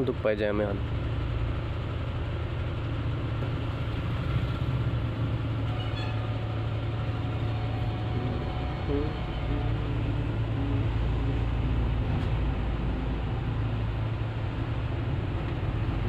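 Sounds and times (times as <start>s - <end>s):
car engine hum from cabin: 0.0s - 16.0s
faint road traffic: 0.0s - 16.0s.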